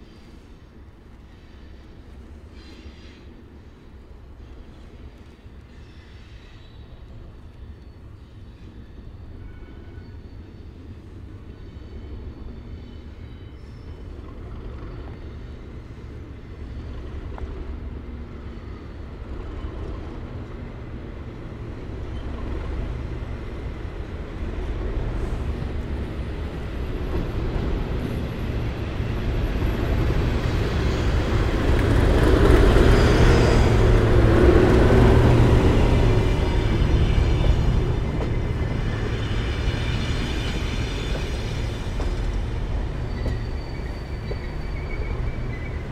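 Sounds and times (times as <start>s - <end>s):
diesel locomotive engine rumble: 0.0s - 45.9s.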